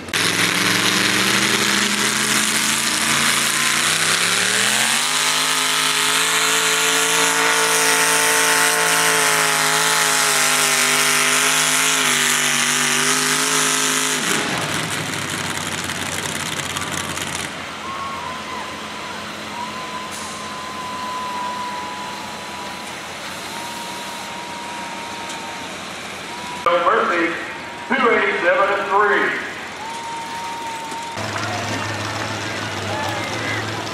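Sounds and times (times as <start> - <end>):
tractor engine at full throttle: 0.0 - 33.9.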